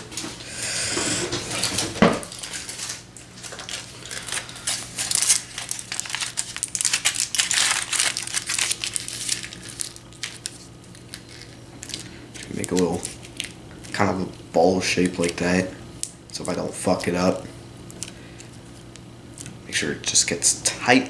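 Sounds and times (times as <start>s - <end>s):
tin foil crinkling: 1.4s - 19.5s.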